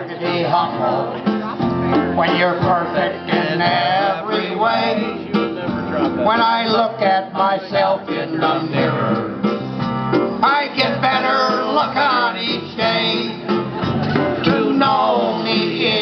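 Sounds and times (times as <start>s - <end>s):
man singing: 0.0s - 9.5s, 10.4s - 13.6s, 14.3s - 16.0s
guitar playing: 0.0s - 16.0s.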